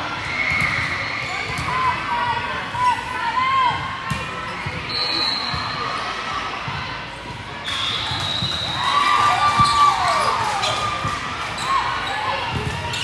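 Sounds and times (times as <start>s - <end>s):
voices in a hall: 0.0s - 13.0s.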